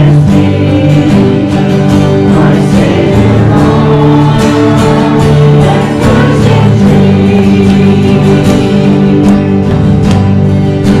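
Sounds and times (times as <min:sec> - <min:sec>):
person singing worship song: 0:00.0 - 0:10.0
acoustic guitar strumming: 0:00.0 - 0:11.0.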